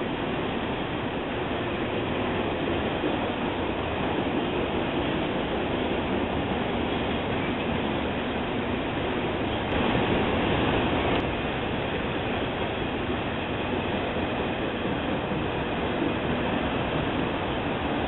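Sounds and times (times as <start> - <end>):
steel wheels rolling on rail: 0.0 - 18.0.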